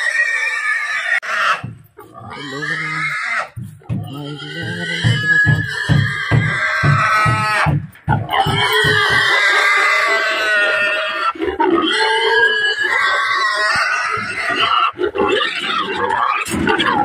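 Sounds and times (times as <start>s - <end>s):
pig squealing: 0.0s - 17.0s.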